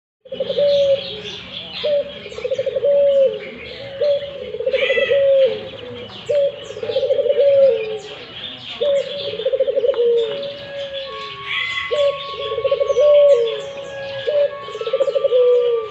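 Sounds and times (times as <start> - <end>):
dove cooing: 0.2 - 15.9.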